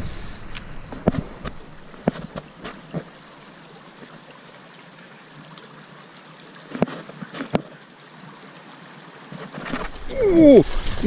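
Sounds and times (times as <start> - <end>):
stream rushing and trickling: 0.0 - 11.0.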